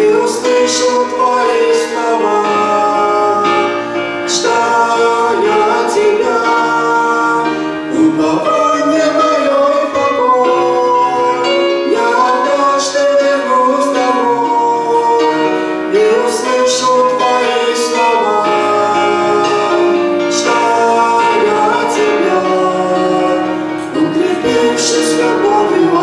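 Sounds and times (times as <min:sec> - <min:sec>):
hymn singing: 0:00.0 - 0:26.0
instrumental accompaniment: 0:00.0 - 0:26.0.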